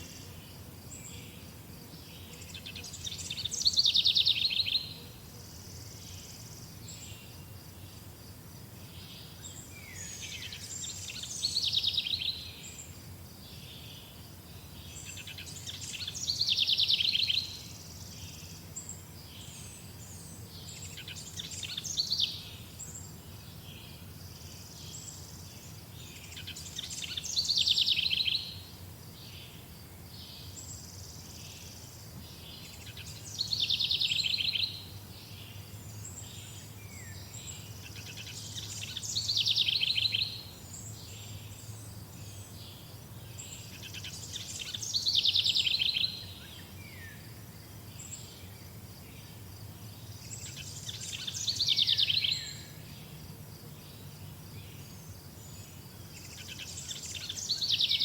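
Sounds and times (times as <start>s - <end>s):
songbird trilled song: 0.0s - 5.0s, 8.9s - 47.3s, 47.9s - 53.2s, 53.8s - 58.0s.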